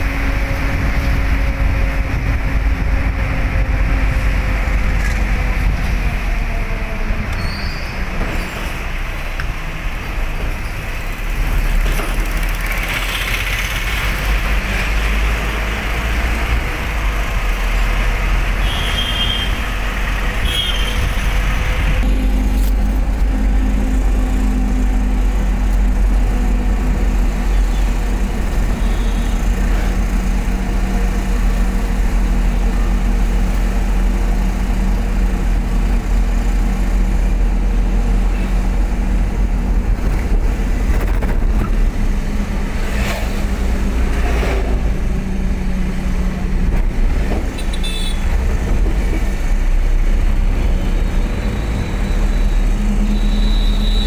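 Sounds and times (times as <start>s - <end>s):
car engine rumble: 0.0s - 53.7s.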